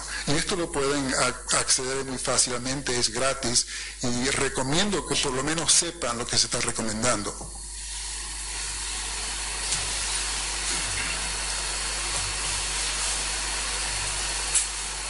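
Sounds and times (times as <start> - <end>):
background hiss: 0.0 - 15.0
low mains hum: 0.0 - 15.0.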